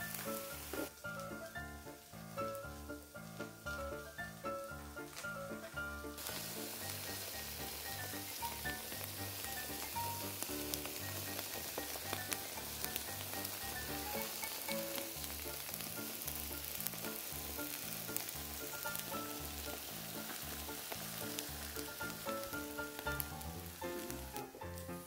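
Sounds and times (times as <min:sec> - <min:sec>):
background music: 0:00.0 - 0:25.0
eel sizzling on a grill: 0:00.0 - 0:25.0.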